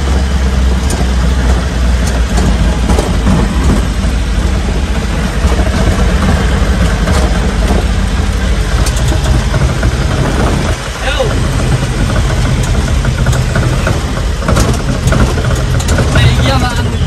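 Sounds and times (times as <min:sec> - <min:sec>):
road noise: 0:00.0 - 0:17.0
truck engine rumbling: 0:00.0 - 0:17.0.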